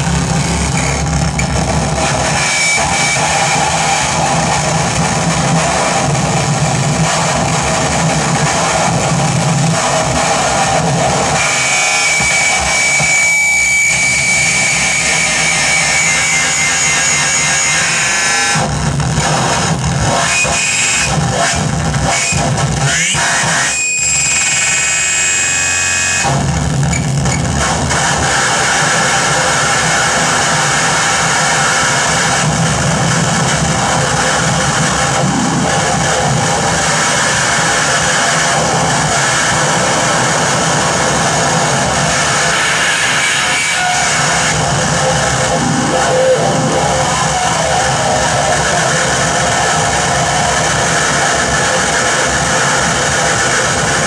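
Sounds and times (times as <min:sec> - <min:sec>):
distorted noise music: 0:00.0 - 0:54.0
low drone: 0:00.0 - 0:54.0
thin high whine: 0:00.0 - 0:54.0.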